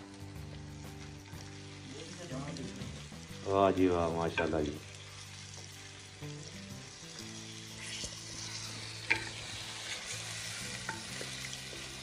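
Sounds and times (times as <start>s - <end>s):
chicken frying and sizzling: 0.0s - 12.0s.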